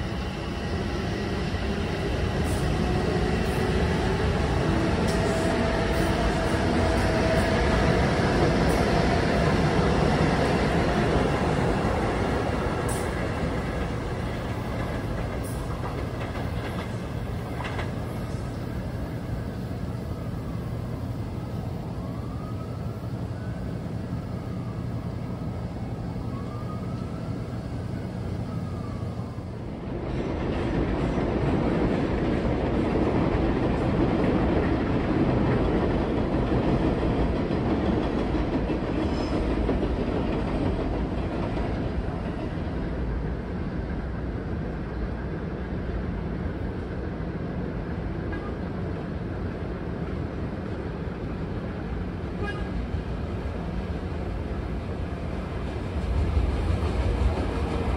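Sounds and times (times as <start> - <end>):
train rumbling on rails: 0.0 - 57.9.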